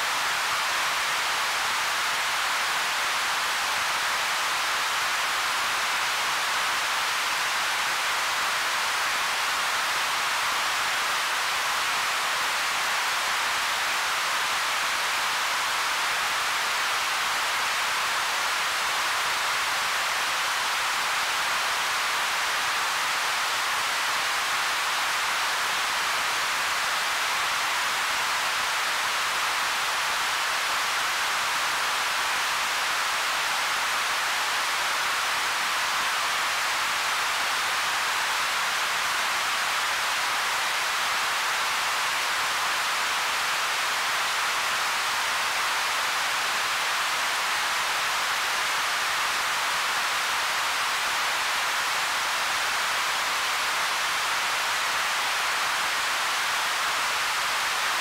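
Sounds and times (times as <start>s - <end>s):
synthesizer white noise hiss: 0.0s - 58.0s.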